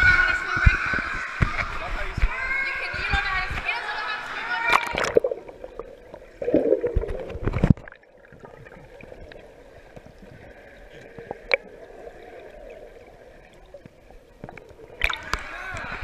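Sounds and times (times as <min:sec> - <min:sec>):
water sloshing and gurgling: 0:00.3 - 0:16.0.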